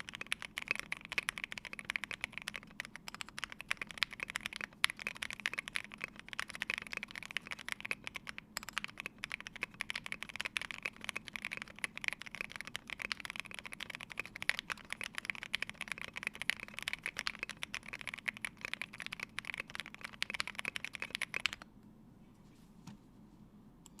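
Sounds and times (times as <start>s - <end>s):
fast mechanical keyboard typing: 0.0s - 21.6s.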